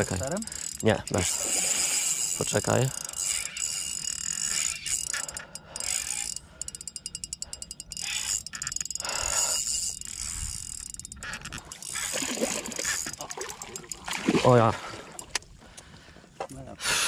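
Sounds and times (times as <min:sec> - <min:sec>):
fishing reel clicking: 0:00.0 - 0:14.1.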